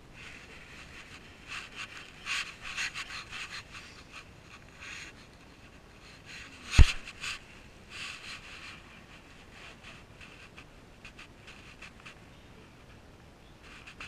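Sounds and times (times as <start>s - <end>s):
rustling and scraping: 0.0s - 13.0s, 13.6s - 14.0s.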